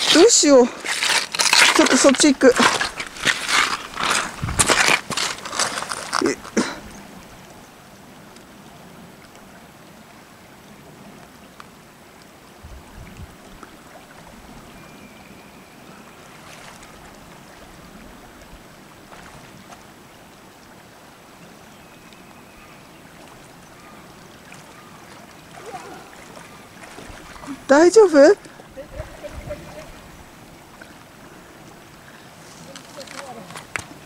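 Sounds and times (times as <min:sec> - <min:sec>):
river flowing over stones: 0:00.0 - 0:34.0.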